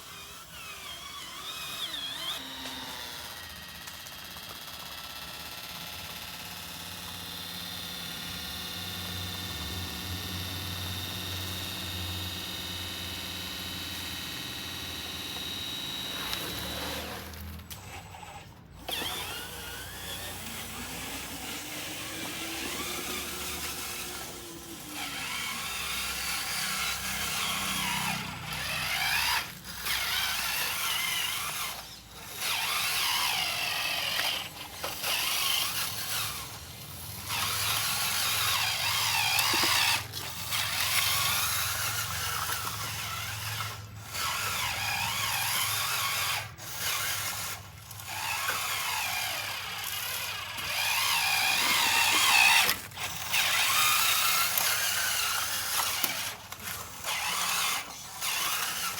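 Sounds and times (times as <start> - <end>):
small electric motors whining: 0.0 - 58.9.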